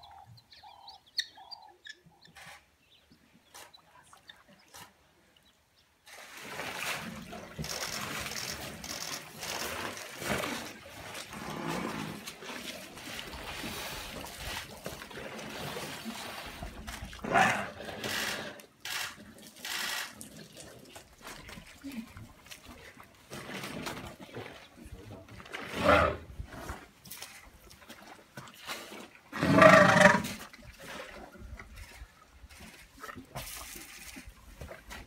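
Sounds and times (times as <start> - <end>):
elephants splashing water: 6.0 - 35.0.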